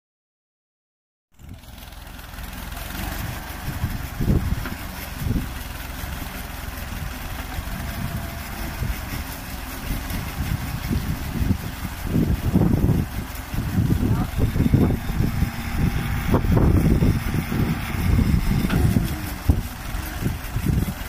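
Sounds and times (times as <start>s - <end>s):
backhoe digging soil: 1.4s - 21.0s
tractor engine running: 1.4s - 21.0s.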